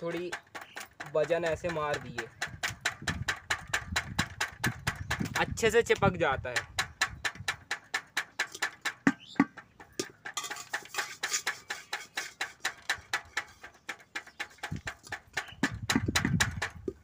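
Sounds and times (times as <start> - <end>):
metal rod tapping rubber patch: 0.0 - 17.0.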